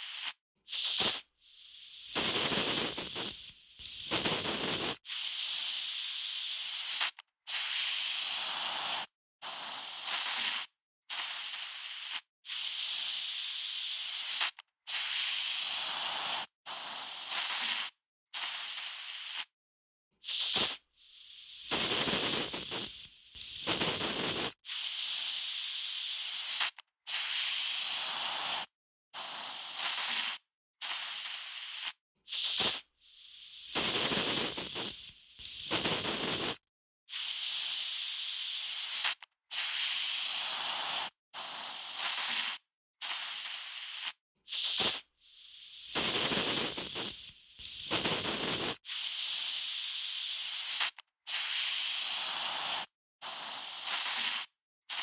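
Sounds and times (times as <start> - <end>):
aerosol spray can hissing: 0.0 - 19.5, 20.2 - 55.0.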